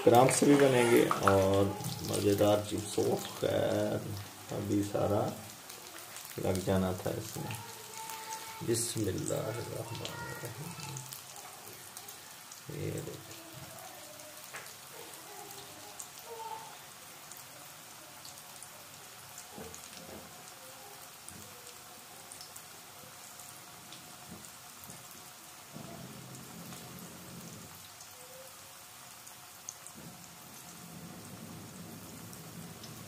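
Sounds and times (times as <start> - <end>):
food deep-frying in oil: 0.0 - 33.0.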